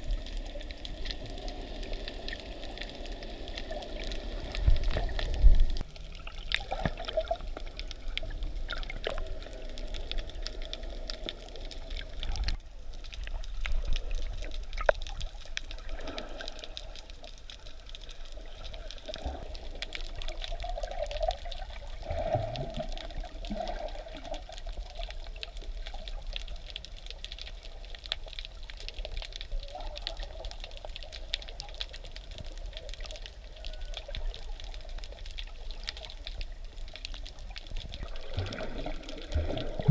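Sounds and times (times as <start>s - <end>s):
underwater crackle of clicks: 0.0s - 39.9s
water sloshing and bubbling: 0.0s - 39.9s.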